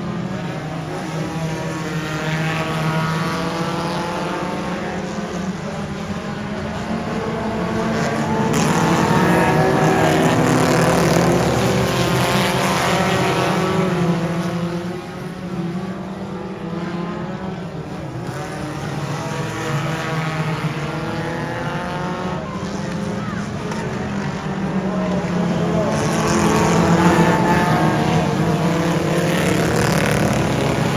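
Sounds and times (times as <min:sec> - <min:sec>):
race car engines passing: 0:00.0 - 0:30.9.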